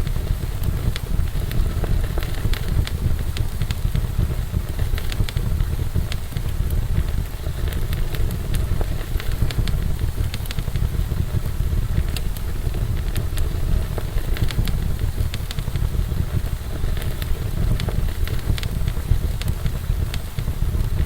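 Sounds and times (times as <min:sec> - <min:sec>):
fire crackling and roaring: 0:00.0 - 0:21.0.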